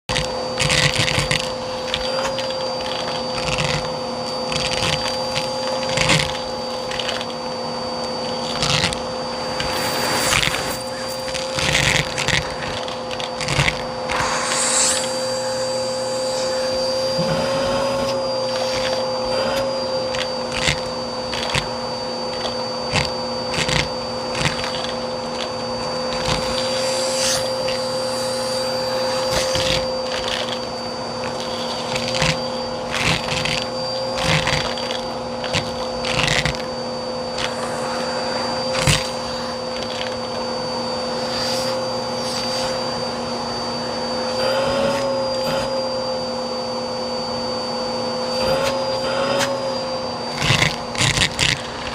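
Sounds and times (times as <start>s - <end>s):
vacuum cleaner whine: 0.0s - 51.9s.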